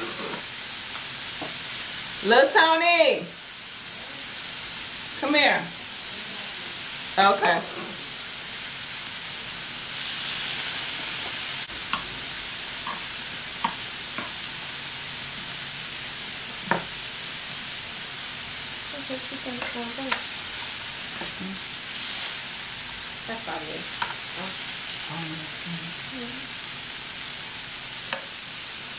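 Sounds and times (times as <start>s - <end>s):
seafood sizzling on a grill: 0.0s - 28.9s.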